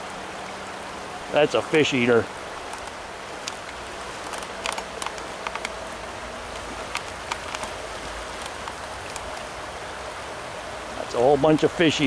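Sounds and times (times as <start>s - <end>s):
stream water rushing over stones: 0.0s - 12.0s.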